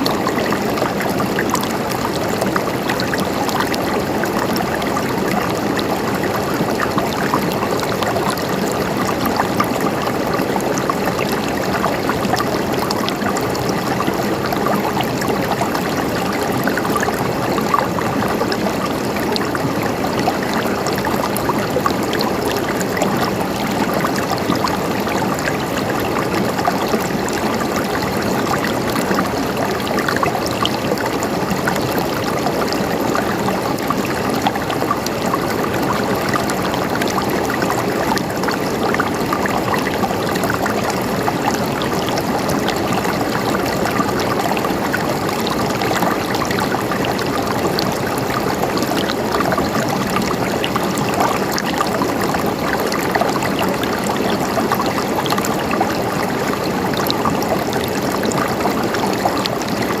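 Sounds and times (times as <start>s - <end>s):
river water flowing over rocks: 0.0s - 60.0s.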